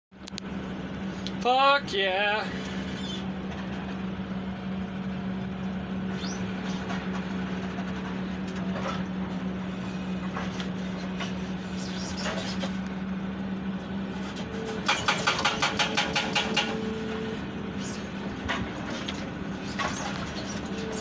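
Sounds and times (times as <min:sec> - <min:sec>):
excavator engine and hydraulics: 0:00.2 - 0:21.0.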